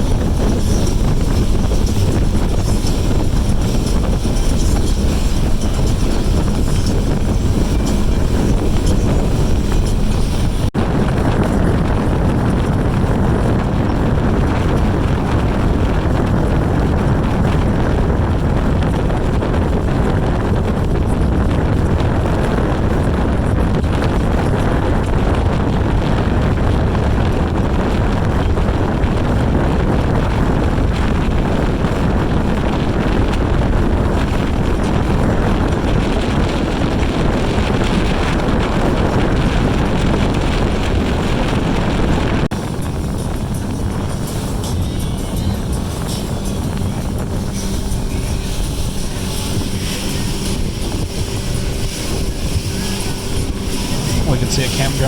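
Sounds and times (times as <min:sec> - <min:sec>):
motorboat running: 0:00.0 - 0:55.0
wind buffeting microphone: 0:00.0 - 0:55.0.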